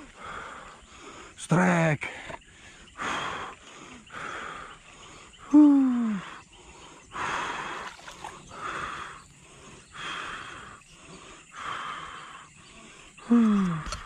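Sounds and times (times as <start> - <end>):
person breathing hard: 0.0 - 1.4, 2.0 - 14.0.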